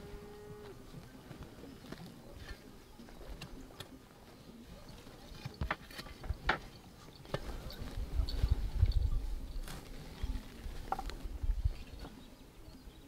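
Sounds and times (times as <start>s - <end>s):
quiet outdoor background noise: 0.0s - 13.0s.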